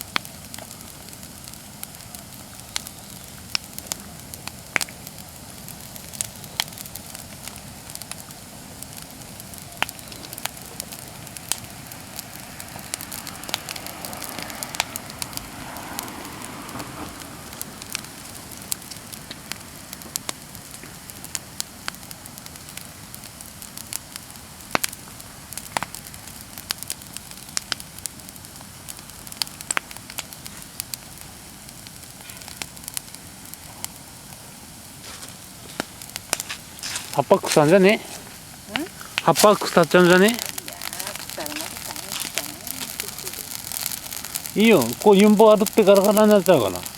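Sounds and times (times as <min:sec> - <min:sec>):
bonfire crackling and popping: 0:00.0 - 0:46.9
fire hissing: 0:00.0 - 0:46.9.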